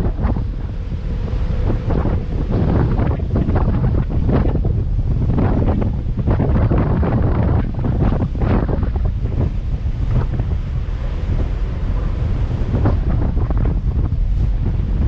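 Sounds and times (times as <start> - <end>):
sea water rushing along hull: 0.0 - 15.0
wind buffeting microphone: 0.0 - 15.0.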